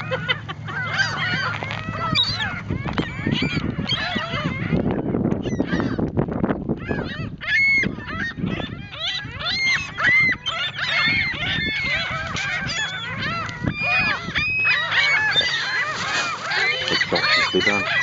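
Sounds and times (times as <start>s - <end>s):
gulls calling: 0.0s - 18.0s.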